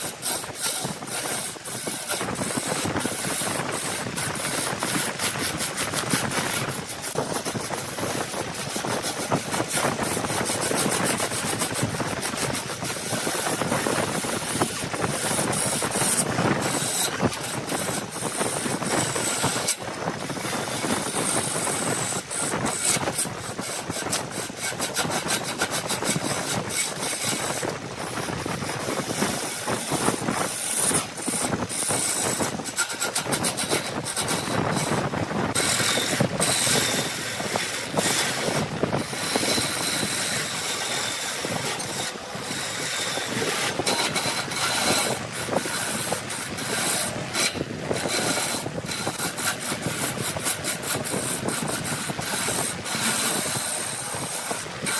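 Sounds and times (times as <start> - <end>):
wood lathe tool scraping: 0.0 - 54.9.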